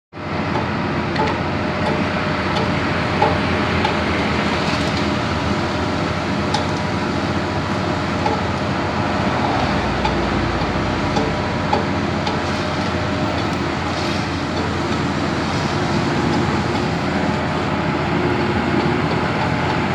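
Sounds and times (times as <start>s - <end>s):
heavy diesel machinery running: 0.2s - 19.9s.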